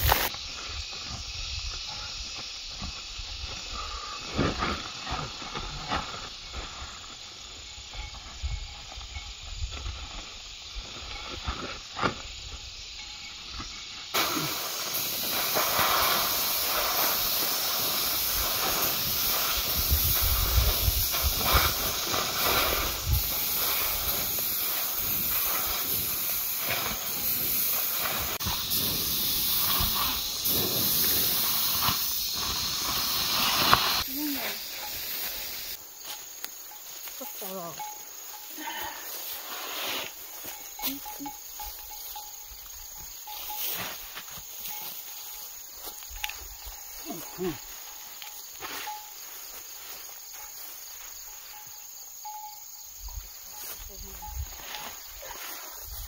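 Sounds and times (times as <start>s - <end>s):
loud steady hiss: 0.0s - 56.0s.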